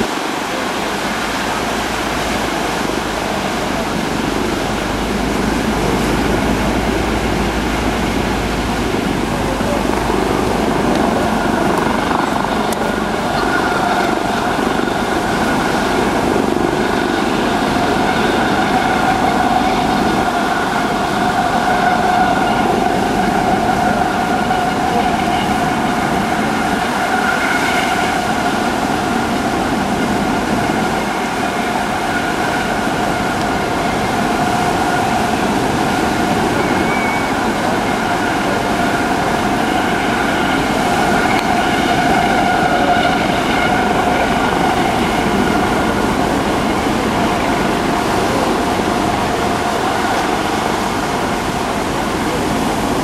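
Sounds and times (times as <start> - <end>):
helicopter hovering: 0.0 - 53.0
high two-tone turbine whine: 0.0 - 53.0.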